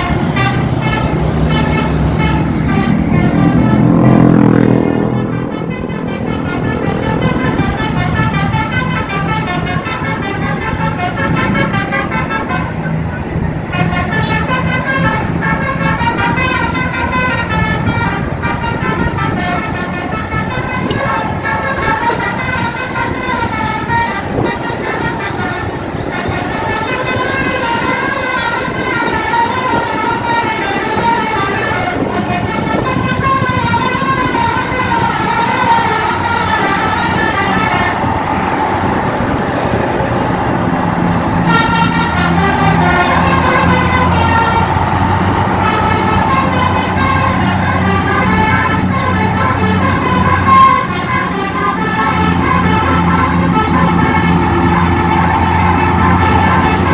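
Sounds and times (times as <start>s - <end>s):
musical air horns melody: 0.0s - 56.9s
road traffic: 0.0s - 56.9s.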